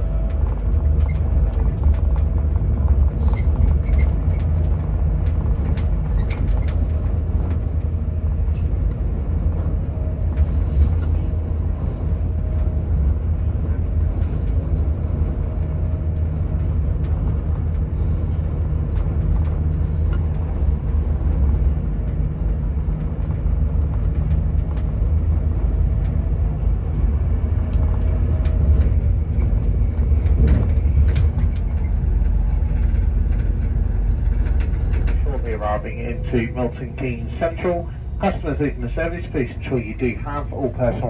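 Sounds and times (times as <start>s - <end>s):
train rumbling on rails: 0.0s - 41.0s.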